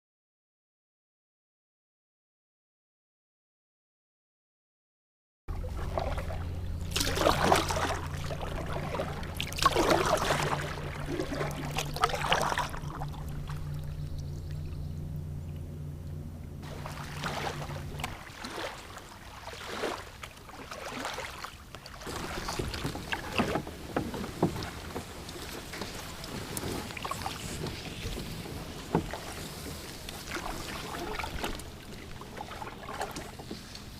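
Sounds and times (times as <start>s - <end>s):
steady low hum: 5.5s - 33.9s
water splashing around kayak: 5.5s - 33.9s.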